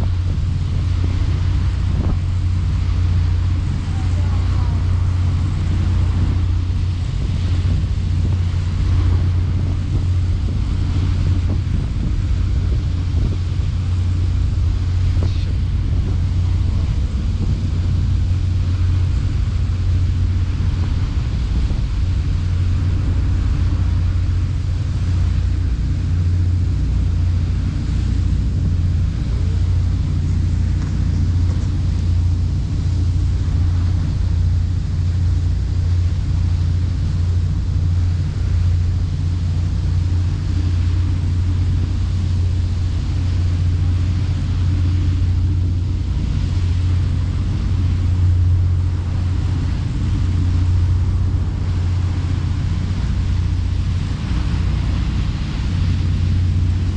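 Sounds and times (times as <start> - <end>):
boat engine droning: 0.0 - 56.9
wind noise on microphone: 0.0 - 56.9.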